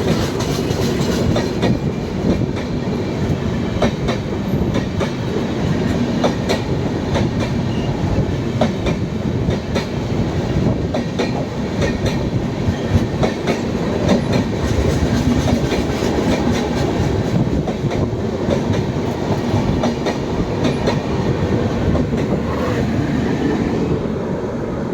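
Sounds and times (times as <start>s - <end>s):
passenger train rumbling past: 0.0s - 24.9s.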